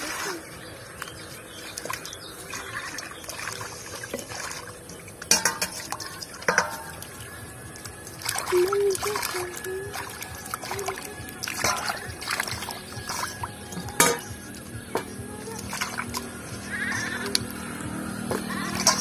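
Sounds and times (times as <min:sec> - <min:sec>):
water sloshing and trickling: 0:00.0 - 0:19.0.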